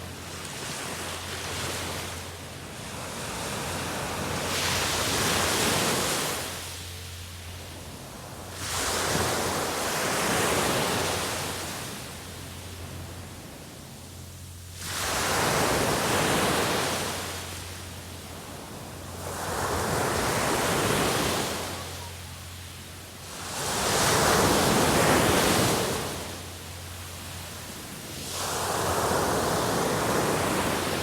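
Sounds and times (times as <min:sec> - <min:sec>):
sea waves breaking on shore: 0:00.0 - 0:31.0.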